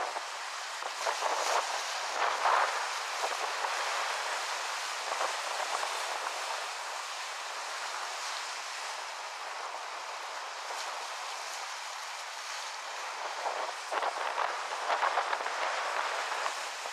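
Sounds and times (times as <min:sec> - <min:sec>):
waves on shore: 0:00.0 - 0:16.9
wind: 0:00.0 - 0:16.9.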